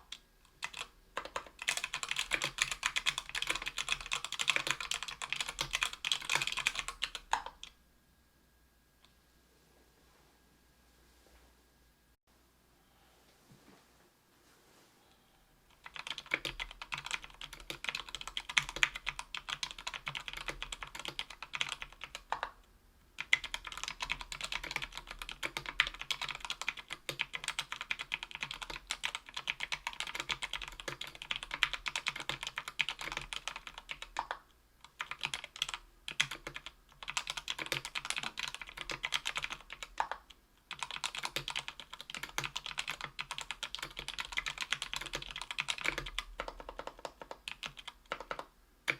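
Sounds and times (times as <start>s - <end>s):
mechanical keyboard typing: 0.0s - 7.8s, 15.7s - 22.6s, 23.2s - 48.9s.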